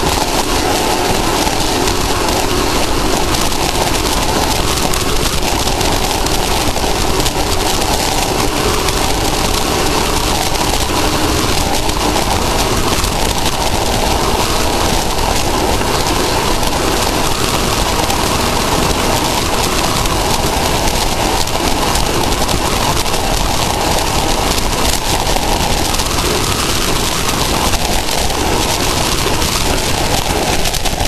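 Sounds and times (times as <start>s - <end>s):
vehicle engine: 0.0s - 31.0s
wind and road noise: 0.0s - 31.0s.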